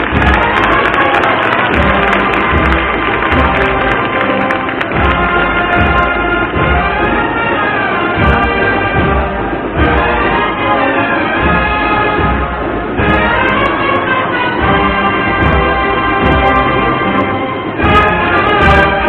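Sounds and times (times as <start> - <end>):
steady drum beat: 0.0 - 10.8, 11.4 - 19.0
brass band playing a march: 0.0 - 19.0.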